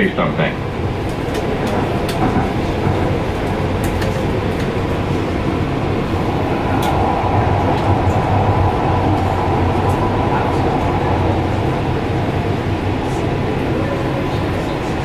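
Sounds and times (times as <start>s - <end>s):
wheels rumbling on rail: 0.0s - 15.0s
steady whine: 1.3s - 15.0s.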